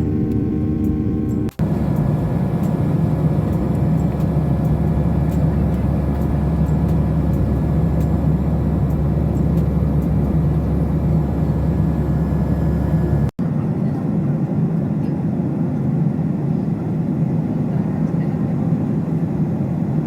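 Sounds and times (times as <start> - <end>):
airliner cabin engine and airflow noise: 0.0 - 20.0.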